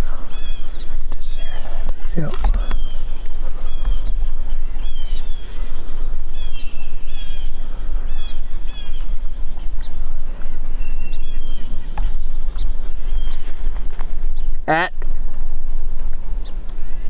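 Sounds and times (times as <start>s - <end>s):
birds chirping: 0.0s - 17.0s
wind rumble on microphone: 0.0s - 17.0s.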